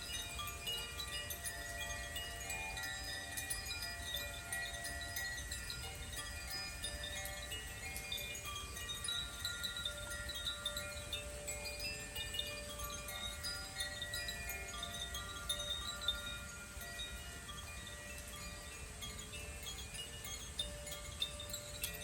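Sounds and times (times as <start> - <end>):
wind chimes ringing: 0.0 - 22.0.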